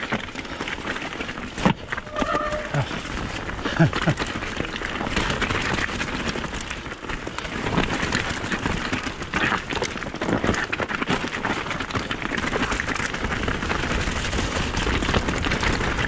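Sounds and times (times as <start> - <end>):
bike rattling over rocks: 0.0 - 16.0
tyres crunching over stones: 0.0 - 16.0.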